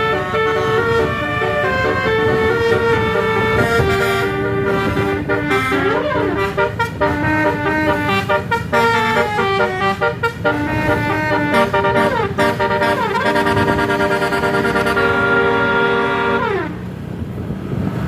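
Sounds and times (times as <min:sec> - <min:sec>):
musical bus horn playing tune: 0:00.0 - 0:16.9.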